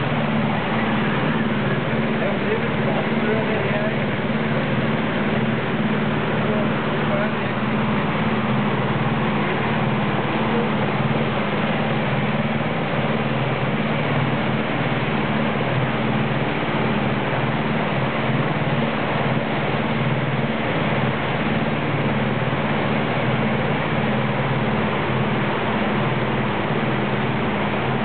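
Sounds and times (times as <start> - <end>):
boat engine droning: 0.0 - 28.0
water rushing from wake: 0.0 - 28.0.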